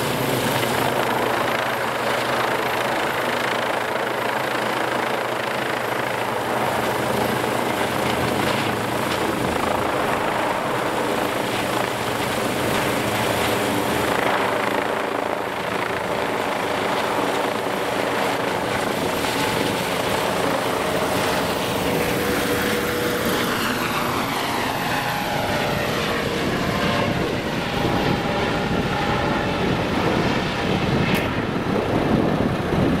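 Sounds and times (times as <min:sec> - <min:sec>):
helicopter rotor beating: 0:00.0 - 0:33.0
turbine engines running: 0:00.0 - 0:33.0.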